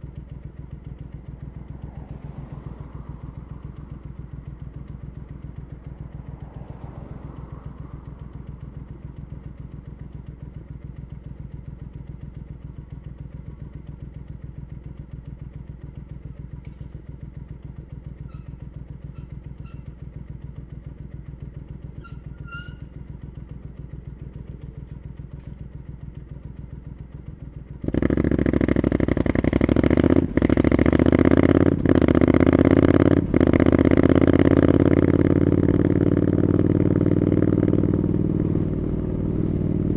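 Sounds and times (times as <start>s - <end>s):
motorcycle accelerating: 0.0s - 39.9s
motorcycle engine idling: 0.0s - 39.9s.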